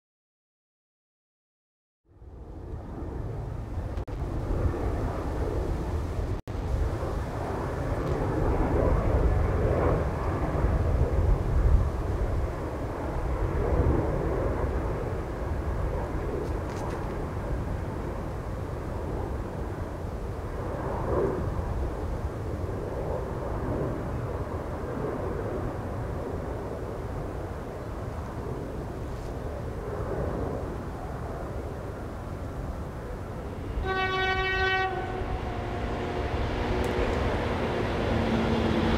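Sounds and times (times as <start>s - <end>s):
jet airliner rumble: 2.1s - 38.9s.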